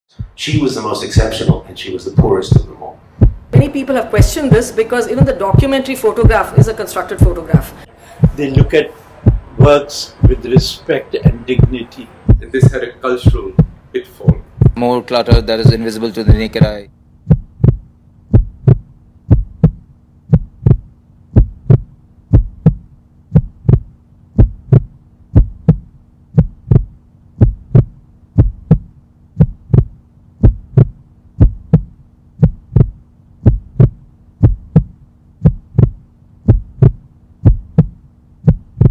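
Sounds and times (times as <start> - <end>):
heartbeat thumps: 0.1 - 38.9
low steady hum: 0.1 - 38.9.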